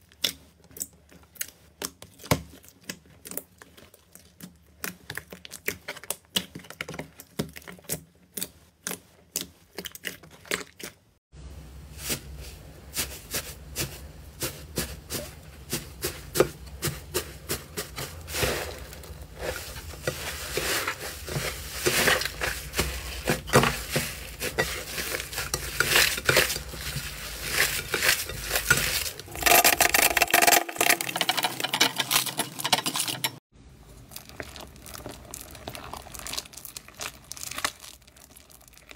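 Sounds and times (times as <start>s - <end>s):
slime squelching by hand: 0.0s - 11.2s, 12.0s - 30.2s, 33.8s - 38.9s
slime stirred with plastic spatula: 0.0s - 11.2s, 11.9s - 30.3s, 33.8s - 38.9s.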